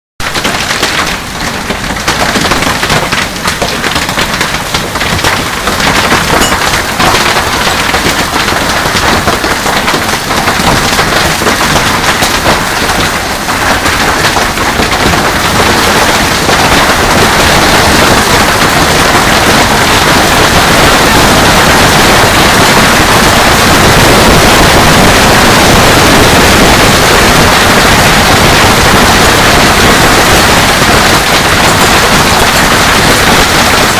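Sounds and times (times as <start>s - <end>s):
hail falling hard: 0.2s - 33.9s.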